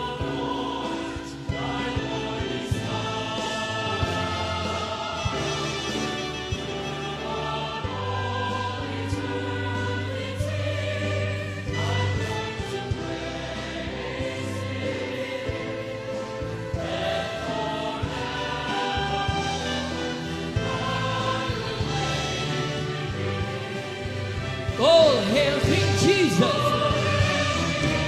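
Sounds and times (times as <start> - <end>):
choir singing sustained chords: 0.0 - 28.0
orchestral accompaniment: 0.0 - 28.0.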